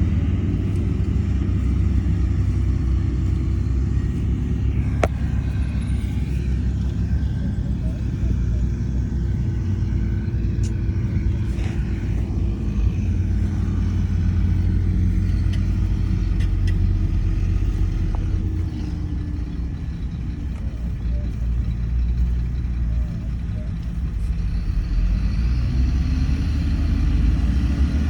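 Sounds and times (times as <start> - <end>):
faint whine: 0.0 - 28.0
heavy diesel engine running: 0.0 - 28.0.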